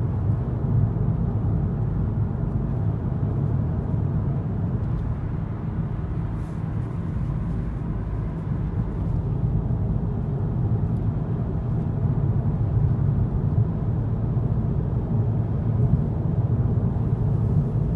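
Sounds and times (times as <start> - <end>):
car tyre and engine rumble: 0.0 - 17.9.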